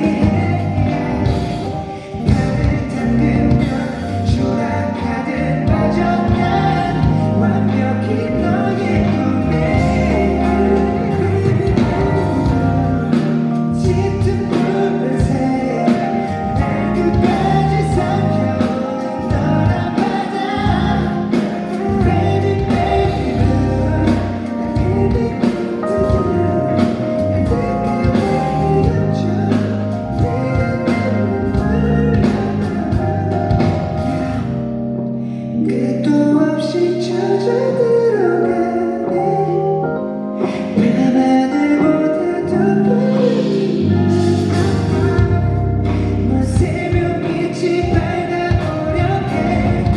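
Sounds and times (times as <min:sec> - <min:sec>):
band accompaniment: 0:00.0 - 0:37.8, 0:38.4 - 0:49.9
man singing ballad: 0:00.0 - 0:49.9.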